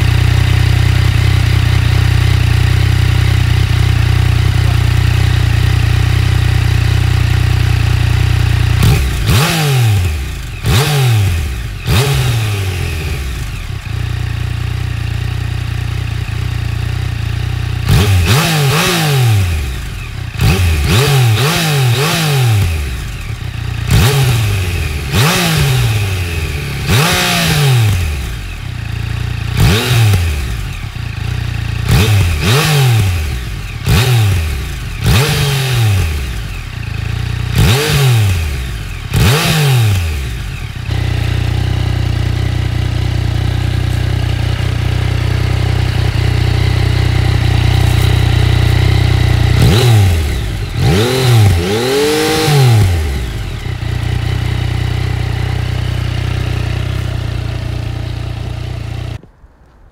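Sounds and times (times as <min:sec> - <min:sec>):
motorcycle engine revving: 0:00.0 - 0:59.2.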